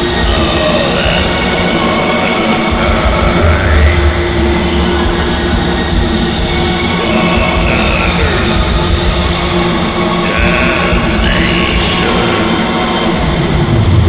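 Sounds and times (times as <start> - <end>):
distorted guitars and drums: 0.0 - 14.0
slow gliding tones: 0.0 - 14.0.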